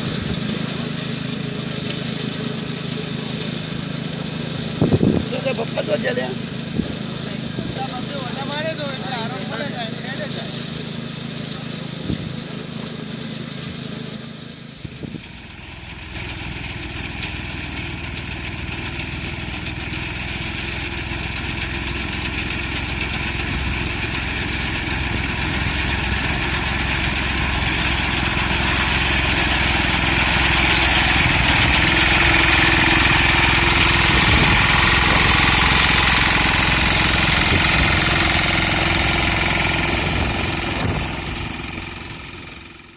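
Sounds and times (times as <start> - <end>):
small tractor engine running: 0.0 - 42.9.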